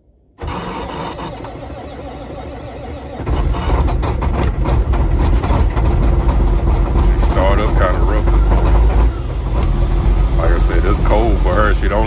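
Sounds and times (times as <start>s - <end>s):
diesel engine running rough: 0.4s - 12.0s
starter motor cranking: 0.4s - 12.0s.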